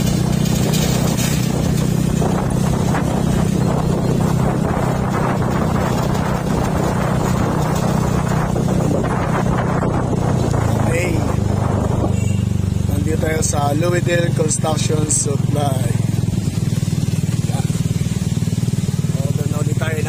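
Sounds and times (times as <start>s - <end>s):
vehicle engine running: 0.0s - 20.0s
wind and road noise: 0.0s - 20.0s.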